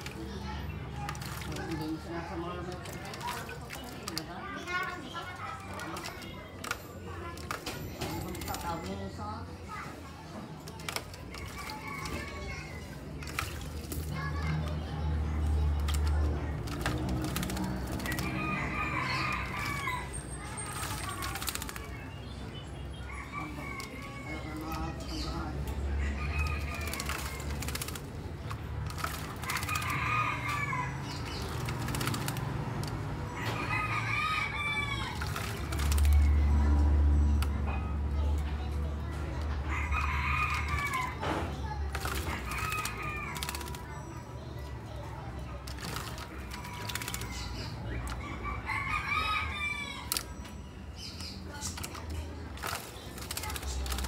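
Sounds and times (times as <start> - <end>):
bird splashing in water: 0.0 - 8.9, 10.4 - 37.6, 39.7 - 44.0, 45.6 - 50.4, 51.0 - 54.0.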